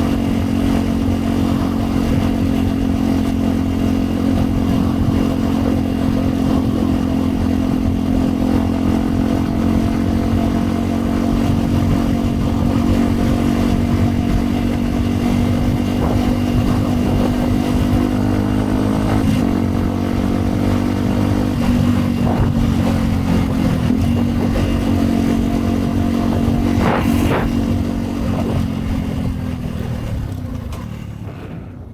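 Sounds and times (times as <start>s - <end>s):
motorcycle engine running: 0.0s - 31.9s
road and wind noise: 0.0s - 31.9s.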